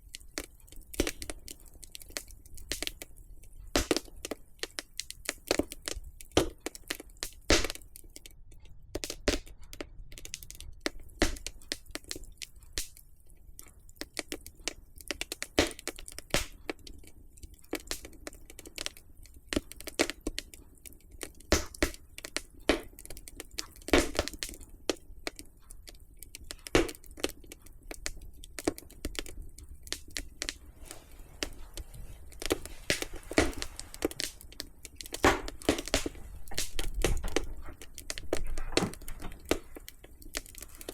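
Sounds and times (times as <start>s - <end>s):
low hiss of burning: 0.0s - 40.9s
wood fire crackling: 0.0s - 40.9s.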